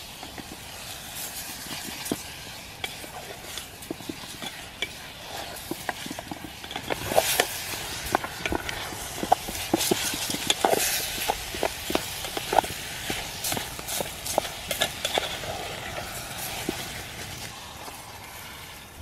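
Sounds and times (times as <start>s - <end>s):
utensil stirring in a pot: 0.0s - 18.8s
chicken sizzling in a pot: 0.0s - 19.0s.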